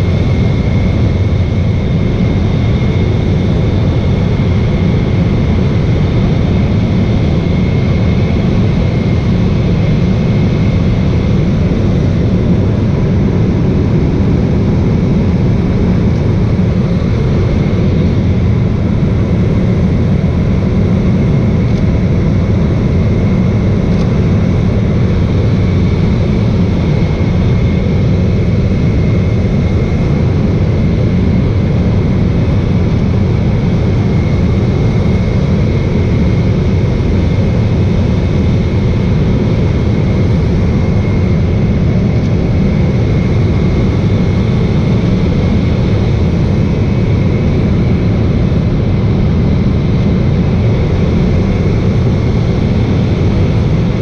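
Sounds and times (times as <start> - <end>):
propeller engine drone: 0.0 - 54.0.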